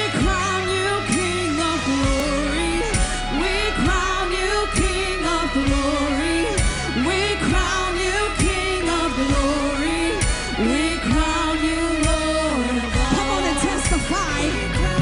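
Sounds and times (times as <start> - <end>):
band playing worship music: 0.0 - 15.0
person singing: 0.0 - 15.0.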